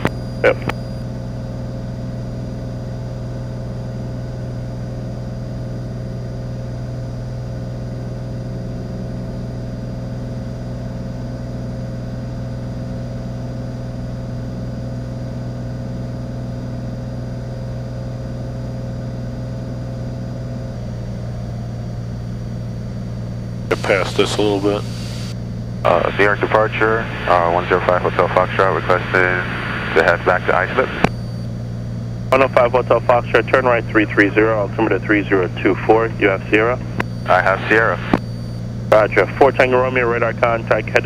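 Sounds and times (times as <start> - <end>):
propeller plane engine droning: 0.0 - 41.0.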